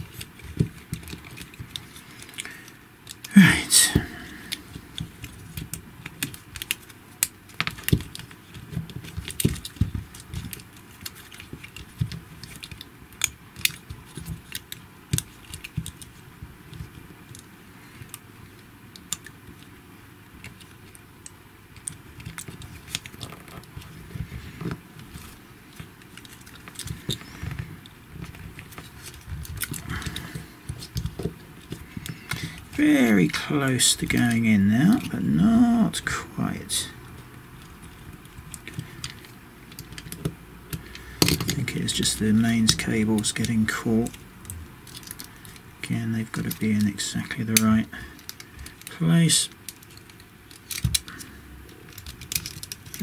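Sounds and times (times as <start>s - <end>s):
plastic parts clicking: 0.0s - 3.3s, 3.9s - 18.2s, 18.9s - 19.7s, 20.4s - 35.2s, 37.1s - 53.0s.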